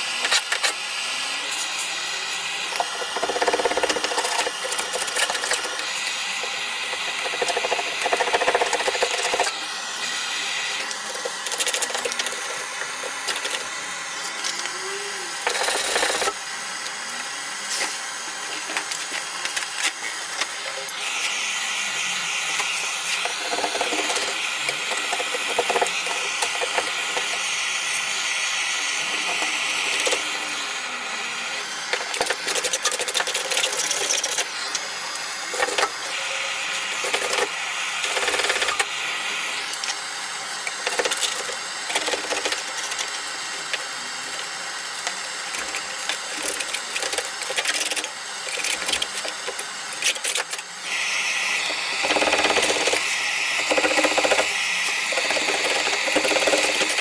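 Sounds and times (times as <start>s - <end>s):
gas torch hissing: 0.0s - 57.0s.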